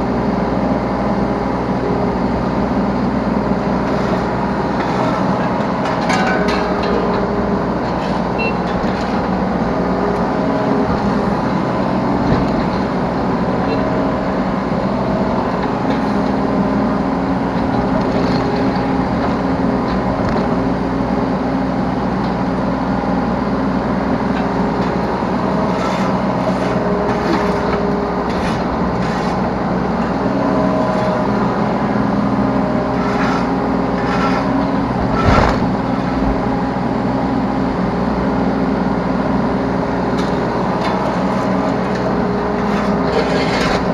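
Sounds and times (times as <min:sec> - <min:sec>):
excavator engine and hydraulics: 0:00.0 - 0:43.9.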